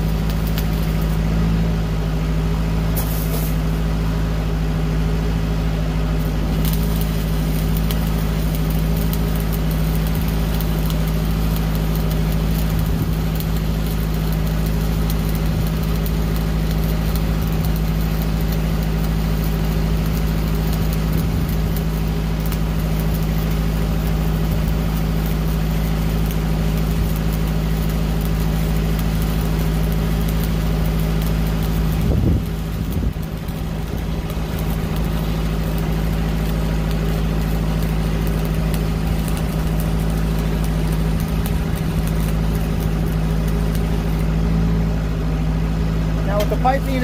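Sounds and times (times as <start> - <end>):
welding arc crackling: 0.0 - 47.0
welding machine engine drone: 0.0 - 47.0.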